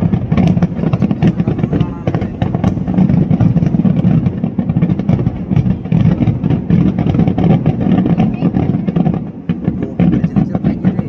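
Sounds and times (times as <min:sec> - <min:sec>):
rapid firework explosions: 0:00.0 - 0:11.0.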